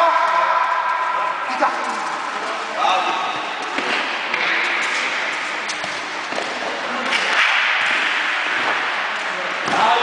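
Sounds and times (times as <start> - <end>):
echoing indoor game din: 0.0 - 10.0.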